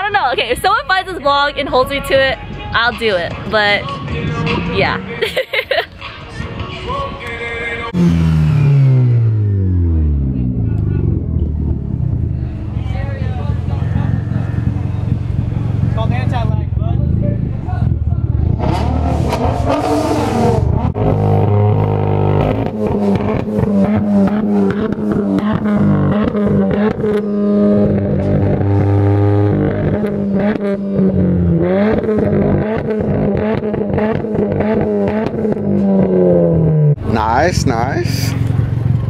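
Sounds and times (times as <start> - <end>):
car engine revving with crackling: 1.9 - 5.2, 5.9 - 39.0.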